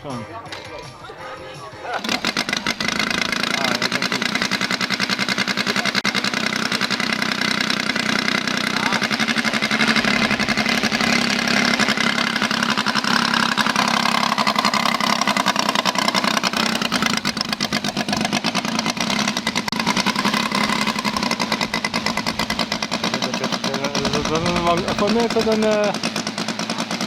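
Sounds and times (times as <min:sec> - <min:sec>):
model aircraft engine running: 0:02.0 - 0:27.0.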